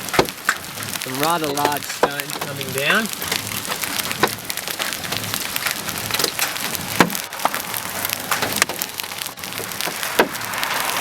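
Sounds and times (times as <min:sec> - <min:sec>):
hailstones striking hard surfaces: 0:00.0 - 0:11.0
rain hiss: 0:00.0 - 0:11.0.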